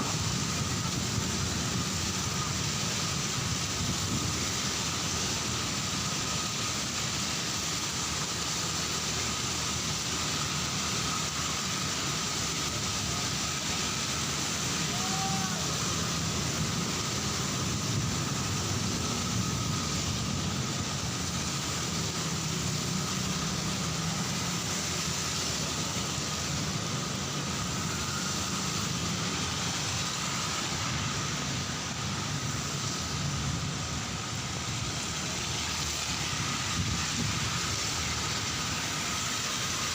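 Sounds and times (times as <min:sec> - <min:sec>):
heavy rain: 0:00.0 - 0:39.9
traffic on a wet street: 0:00.0 - 0:39.9.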